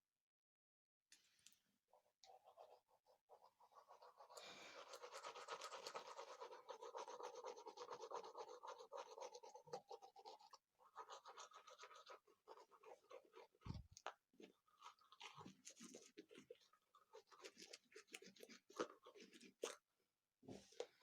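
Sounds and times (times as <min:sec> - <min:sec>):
toothbrush scrubbing teeth: 0:02.2 - 0:19.8.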